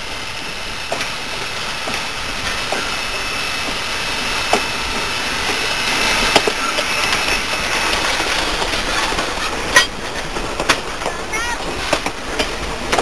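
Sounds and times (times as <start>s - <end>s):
steam hissing: 0.0s - 13.0s
train running on rails: 0.0s - 13.0s.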